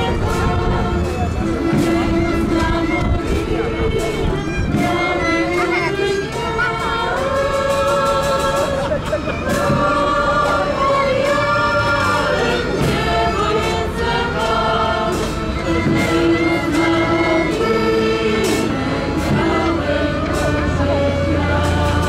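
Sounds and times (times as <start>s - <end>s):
folk band accompaniment: 0.0s - 22.0s
folk chorus singing: 0.0s - 22.0s.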